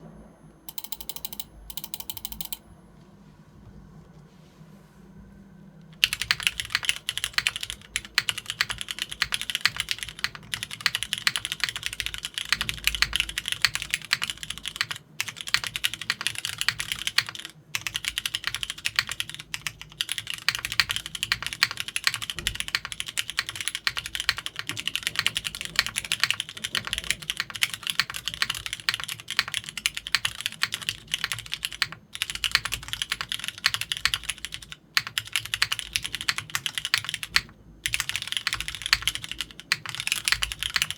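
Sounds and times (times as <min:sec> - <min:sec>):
mechanical keyboard typing: 0:00.7 - 0:02.6, 0:06.0 - 0:40.9.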